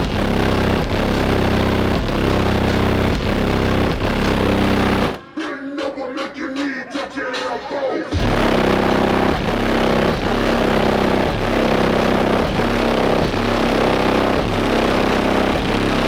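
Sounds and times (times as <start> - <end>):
distorted bass-heavy music: 0.0 - 16.0.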